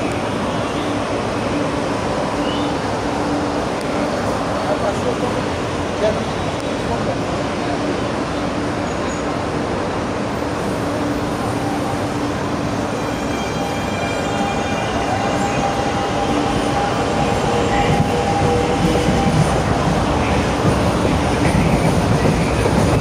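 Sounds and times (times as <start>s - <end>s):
electric train running rumble: 0.0s - 23.0s.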